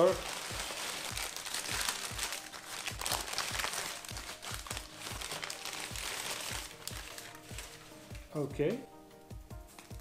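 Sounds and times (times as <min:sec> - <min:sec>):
paper crinkling and rustling: 0:00.0 - 0:08.2
background music with low beat: 0:00.0 - 0:10.0.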